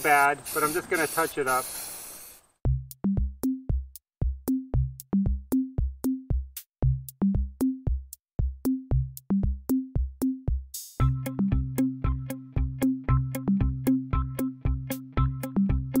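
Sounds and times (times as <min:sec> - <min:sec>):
drum machine beat: 0:02.6 - 0:16.0.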